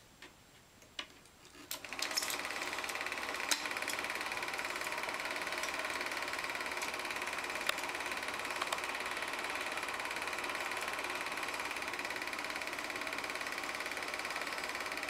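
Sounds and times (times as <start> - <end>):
sharp clicks: 0.8 - 15.0.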